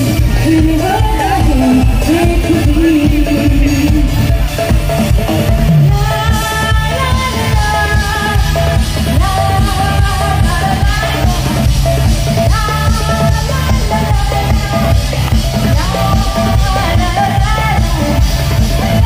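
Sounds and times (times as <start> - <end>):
woman singing: 0.0 - 4.4, 5.8 - 19.0
live band music: 0.0 - 19.0.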